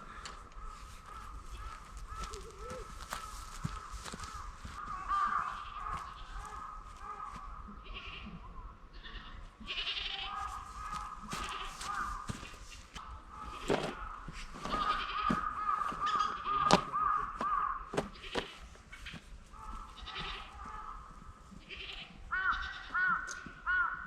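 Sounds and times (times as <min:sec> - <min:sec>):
birds calling harsh notes: 0:00.0 - 0:24.0.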